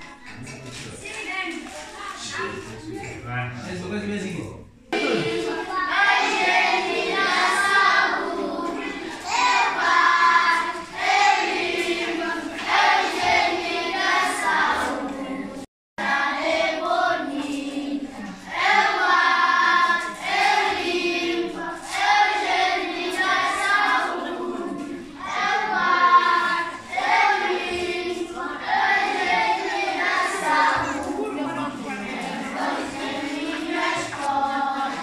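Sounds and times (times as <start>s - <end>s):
children singing together: 4.9s - 35.0s.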